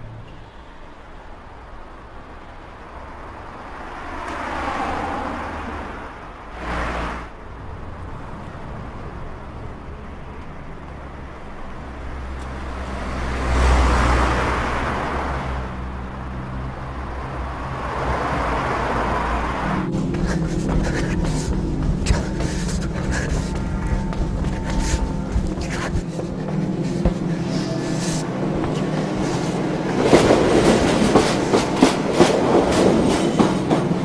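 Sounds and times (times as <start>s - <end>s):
cars passing: 0.0s - 34.0s
low traffic rumble: 0.0s - 34.0s.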